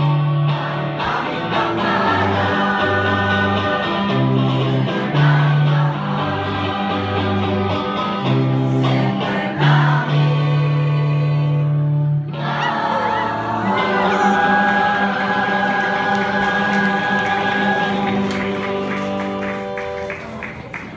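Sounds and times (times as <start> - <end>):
mixed choir singing: 0.4 - 19.4.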